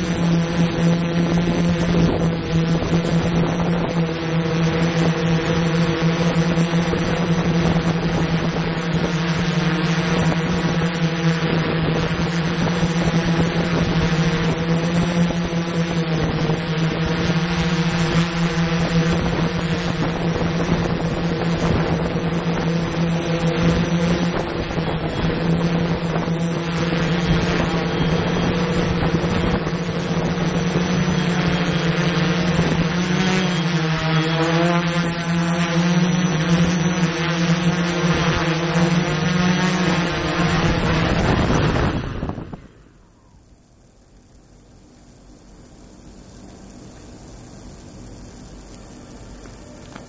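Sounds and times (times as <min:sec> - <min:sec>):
drone propellers humming: 0:00.0 - 0:50.0.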